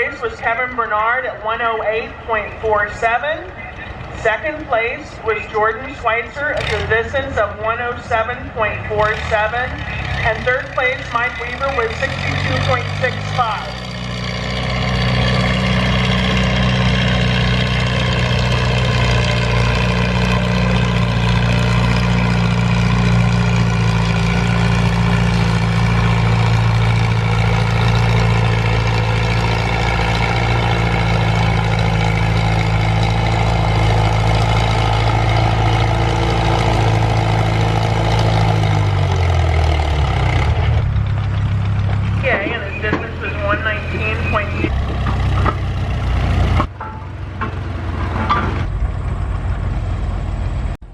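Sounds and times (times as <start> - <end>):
tractor engine running hard: 0.0 - 50.9.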